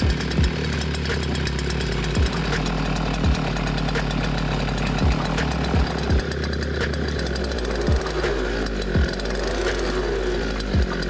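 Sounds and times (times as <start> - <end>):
small gasoline engine running: 0.0 - 11.0
low thumps: 2.1 - 11.0.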